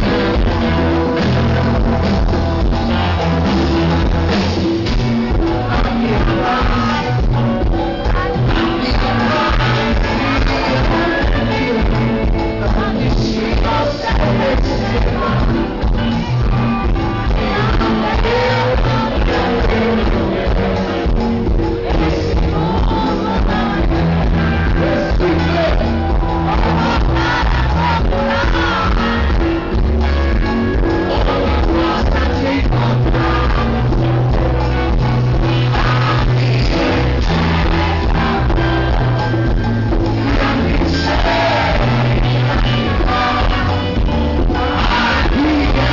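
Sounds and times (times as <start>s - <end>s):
live band playing: 0.0s - 45.9s
person singing: 0.0s - 45.9s
strong bass line: 0.0s - 45.9s.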